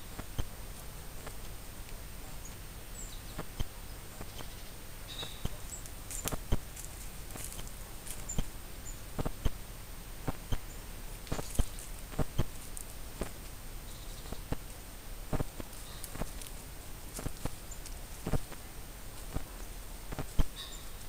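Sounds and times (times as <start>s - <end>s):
faint steady hiss: 0.0s - 21.0s
dry leaves crackling underfoot: 0.2s - 9.4s, 10.2s - 21.0s.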